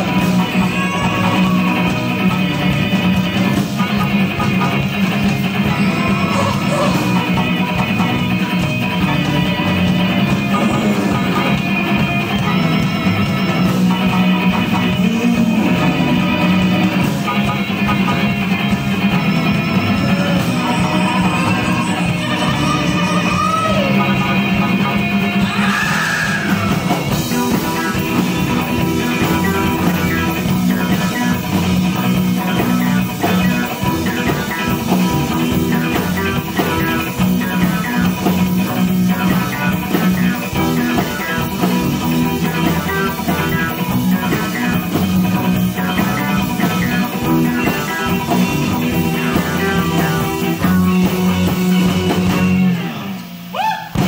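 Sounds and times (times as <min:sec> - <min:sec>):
rock song with guitar and drums: 0:00.0 - 0:54.0.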